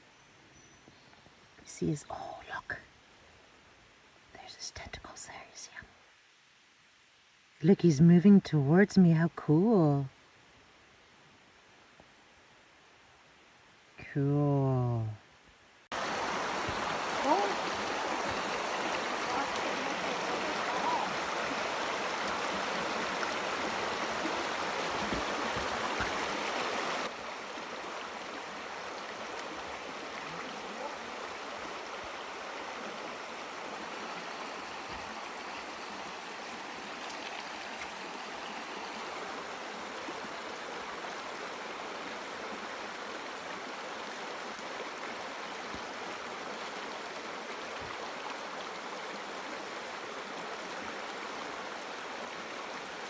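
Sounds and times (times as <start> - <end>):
stream flowing: 6.0 - 53.0.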